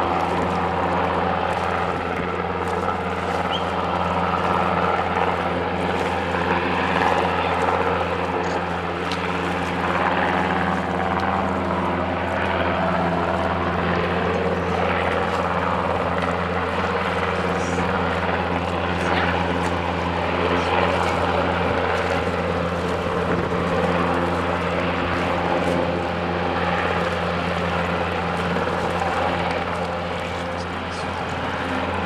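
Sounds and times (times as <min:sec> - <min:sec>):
helicopter hovering: 0:00.0 - 0:32.0.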